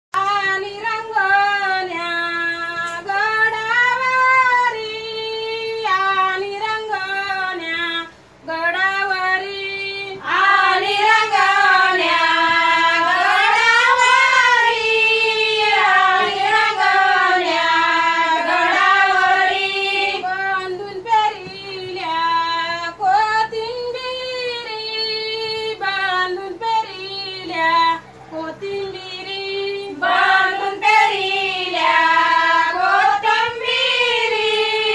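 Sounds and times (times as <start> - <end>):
women singing without instruments: 0.2 - 34.9.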